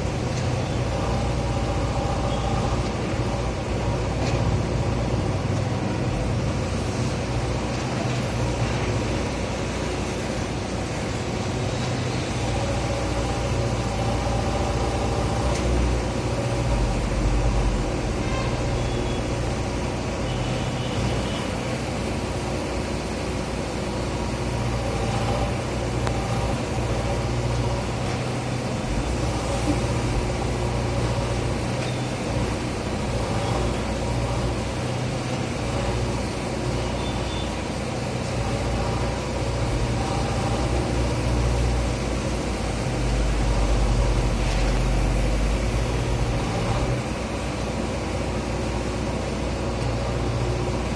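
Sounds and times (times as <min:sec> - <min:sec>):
digger diesel engine running: 0:00.0 - 0:50.9.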